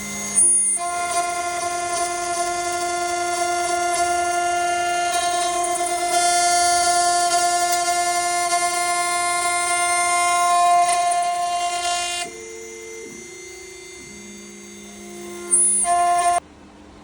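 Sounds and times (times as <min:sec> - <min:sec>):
bit cutting pipe hiss: 0:00.0 - 0:16.4
cnc router spindle whining: 0:00.0 - 0:16.4.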